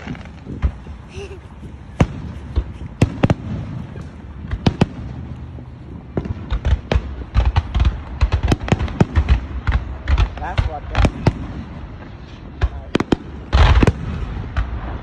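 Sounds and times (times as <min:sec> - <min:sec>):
fireworks bursting with bangs: 0:00.0 - 0:15.0.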